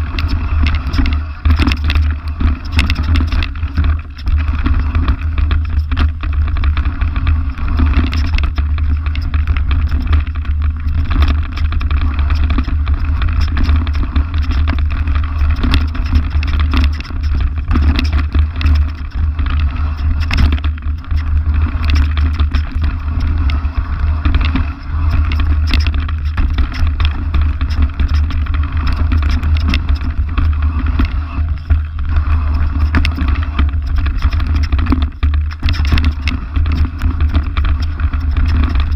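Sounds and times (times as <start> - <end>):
bike frame and tyres clattering: 0.0 - 38.9
wind buffeting microphone: 0.0 - 38.9.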